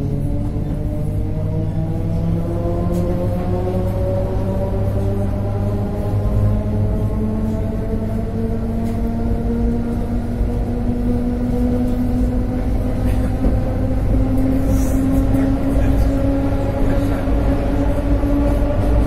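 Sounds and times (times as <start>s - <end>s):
electric train rumbling: 0.0s - 19.0s.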